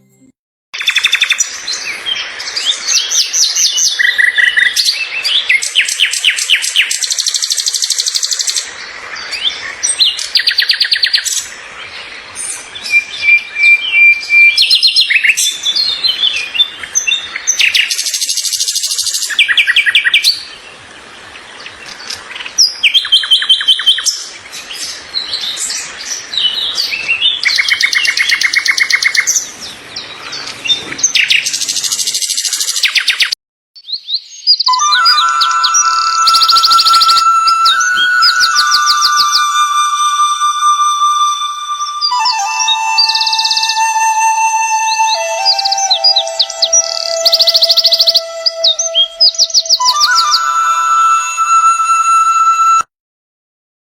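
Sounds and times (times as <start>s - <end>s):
songbirds chirping and singing: 0.8s - 51.8s.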